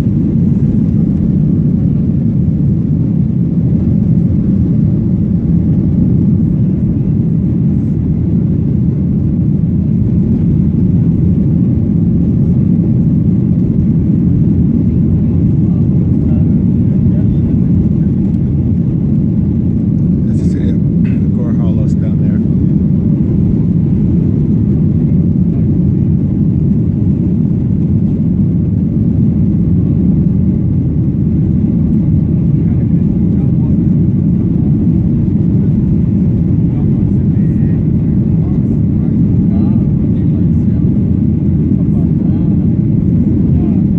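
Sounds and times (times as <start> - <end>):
jet cabin engine rumble: 0.0 - 43.9.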